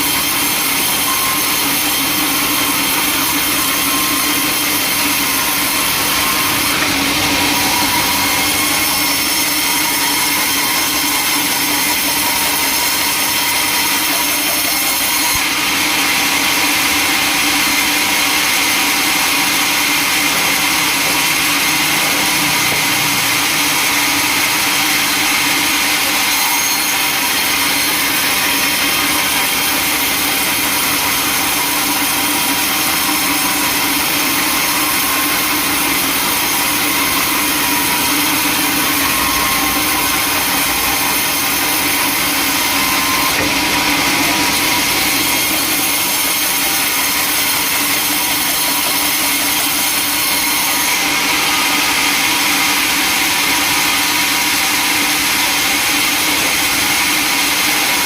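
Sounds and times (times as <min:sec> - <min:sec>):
sawmill saw running: 0:00.0 - 0:58.0.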